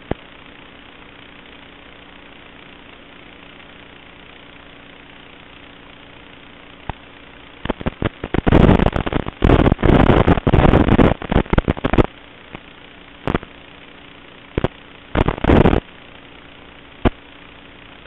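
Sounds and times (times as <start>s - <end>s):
distorted crackling bursts: 0.0s - 18.0s
faint motor hum: 0.0s - 18.0s.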